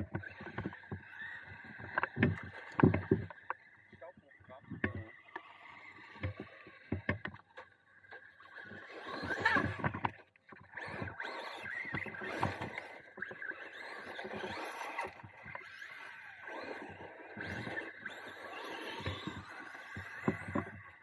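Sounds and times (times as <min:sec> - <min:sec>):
toy truck motor whining: 0:00.0 - 0:21.0.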